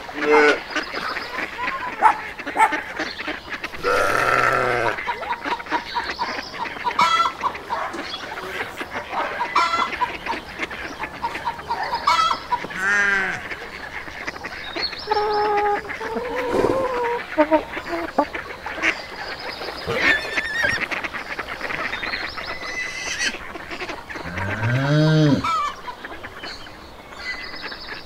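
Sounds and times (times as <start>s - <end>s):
poultry honking and clucking: 0.0s - 28.0s.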